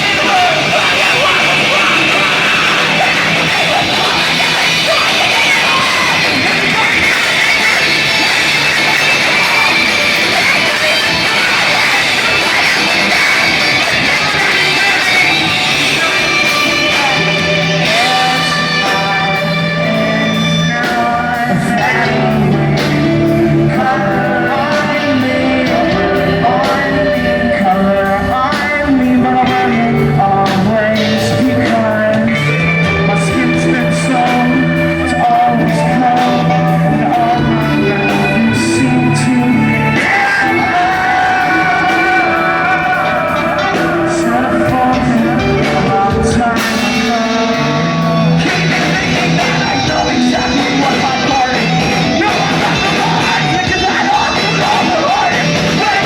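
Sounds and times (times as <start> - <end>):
bass guitar: 0.0 - 56.0
drums: 0.0 - 56.0
electric guitars: 0.0 - 56.0
sung and shouted vocals: 0.0 - 56.0.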